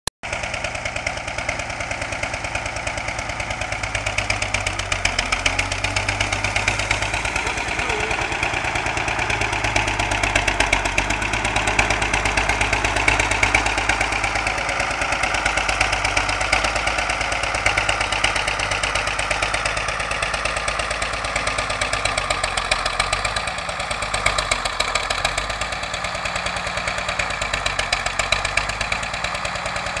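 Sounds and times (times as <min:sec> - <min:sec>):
tractor diesel engine chugging: 0:00.2 - 0:30.0.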